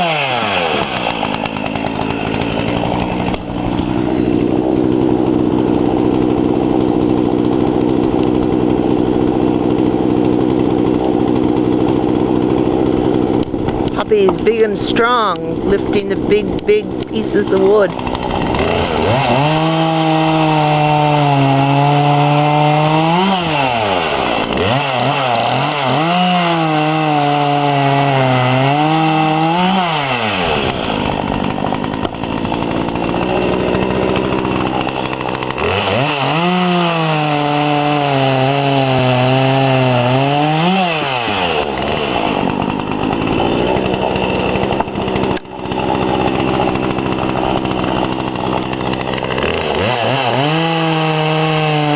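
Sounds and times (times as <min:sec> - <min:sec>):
chainsaw cutting logs: 0:00.0 - 0:51.9.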